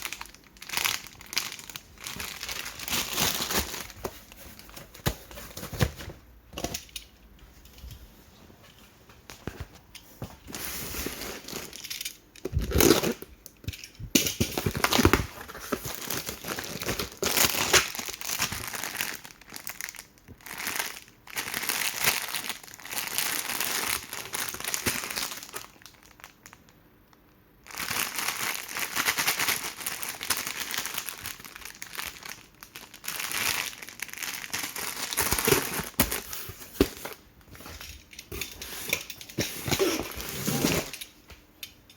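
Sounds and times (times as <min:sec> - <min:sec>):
plastic packaging crinkling: 0:00.0 - 0:06.9, 0:10.5 - 0:13.3, 0:14.5 - 0:26.7, 0:27.6 - 0:41.3.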